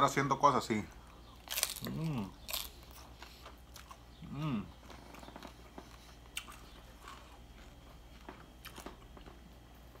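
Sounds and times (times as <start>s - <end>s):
closed-mouth hum: 0.0s - 10.0s
man chewing: 1.0s - 10.0s.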